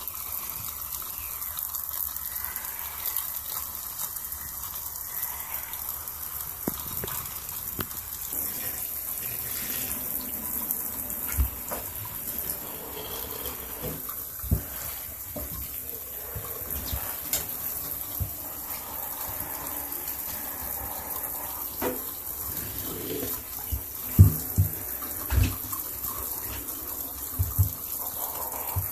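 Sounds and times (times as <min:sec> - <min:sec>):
shower spray on leather boots: 0:00.0 - 0:28.9.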